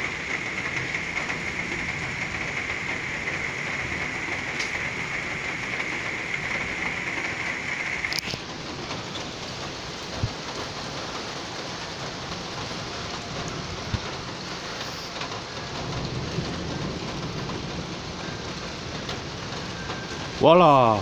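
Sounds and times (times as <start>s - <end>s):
heavy rain falling: 0.0s - 21.0s
low rumble of thunder: 0.0s - 21.0s.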